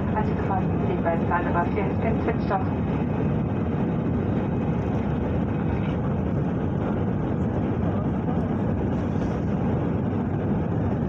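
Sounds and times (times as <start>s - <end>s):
airliner engines roaring in cabin: 0.0s - 11.0s.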